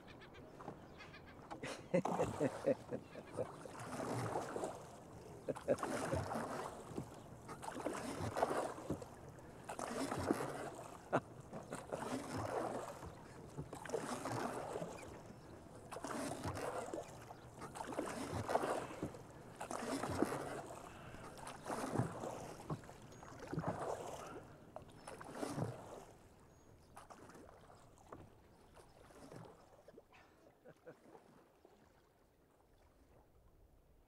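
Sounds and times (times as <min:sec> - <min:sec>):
oars pulling through water: 0:00.0 - 0:34.0.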